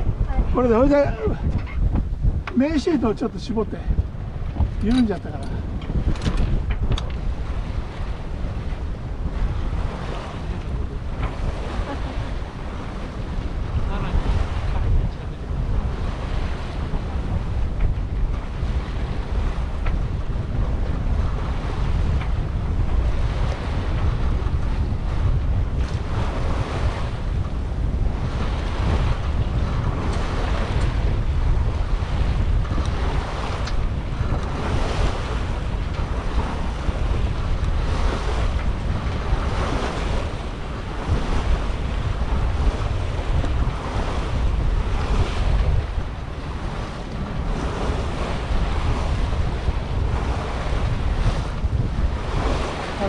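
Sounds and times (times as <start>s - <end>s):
water splashing along bow: 0.0s - 53.0s
wind buffeting microphone: 0.0s - 53.0s.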